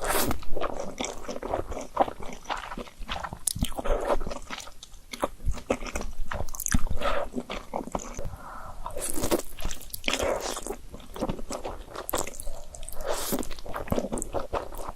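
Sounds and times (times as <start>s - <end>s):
wet chewing and smacking: 0.0s - 14.9s.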